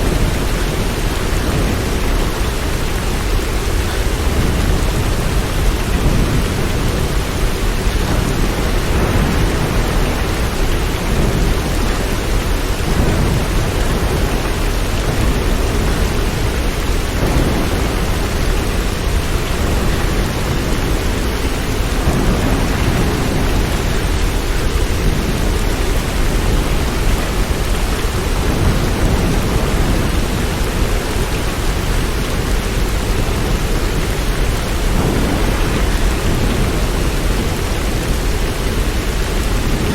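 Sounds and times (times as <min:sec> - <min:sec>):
deep continuous rumble: 0:00.0 - 0:39.9
heavy rain hissing: 0:00.0 - 0:39.9.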